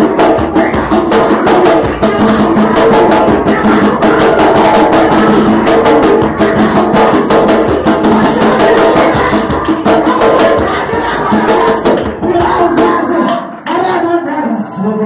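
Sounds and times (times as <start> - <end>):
loud music with drums: 0.0 - 13.5.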